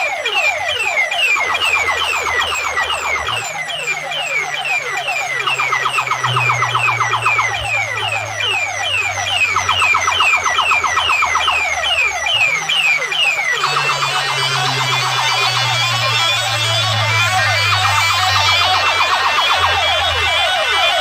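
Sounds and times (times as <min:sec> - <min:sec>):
electronic siren falling chirps: 0:00.0 - 0:21.0.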